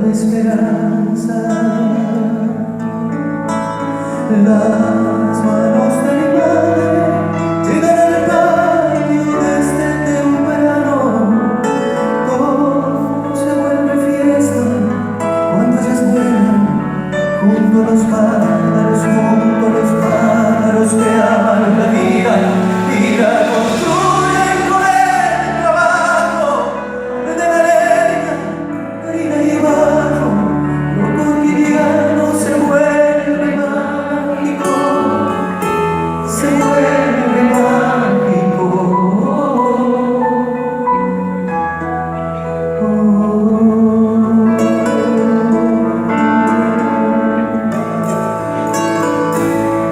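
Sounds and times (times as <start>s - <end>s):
instrumental accompaniment: 0.0s - 49.9s
person singing: 0.0s - 49.9s.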